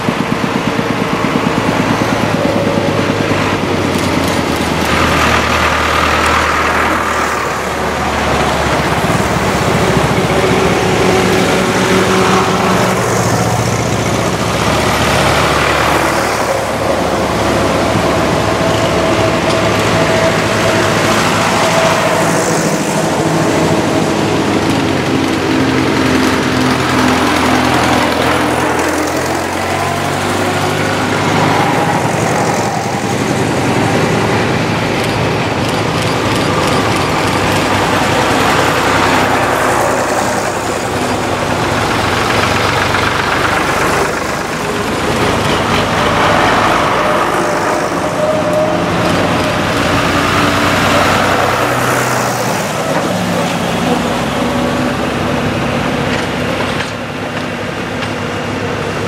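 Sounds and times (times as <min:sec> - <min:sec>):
tractors driving past: 0:00.0 - 0:59.0.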